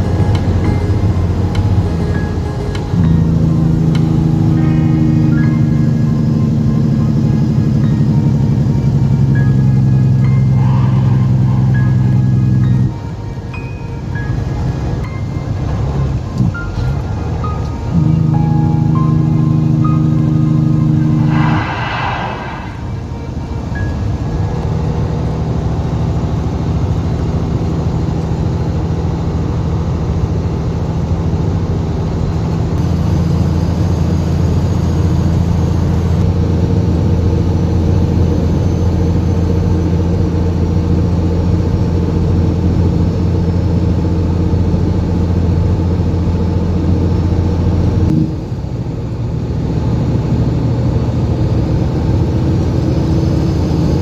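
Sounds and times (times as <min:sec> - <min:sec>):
truck diesel engine pulling: 0:00.0 - 0:54.0.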